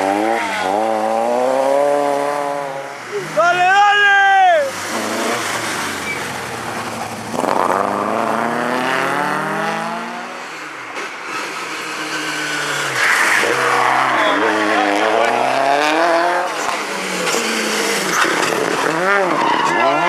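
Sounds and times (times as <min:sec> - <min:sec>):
rally car engine accelerating: 0:00.0 - 0:03.4, 0:04.7 - 0:20.0.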